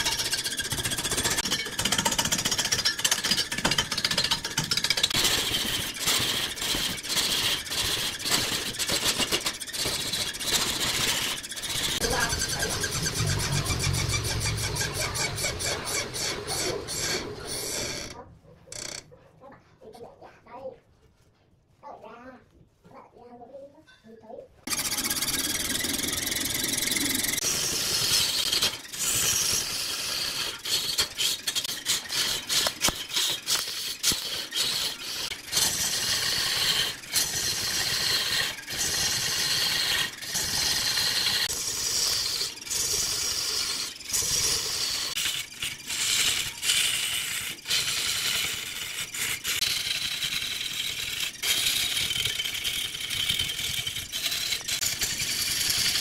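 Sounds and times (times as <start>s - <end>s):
lathe tool scraping wood: 0.0s - 19.0s, 24.7s - 56.0s.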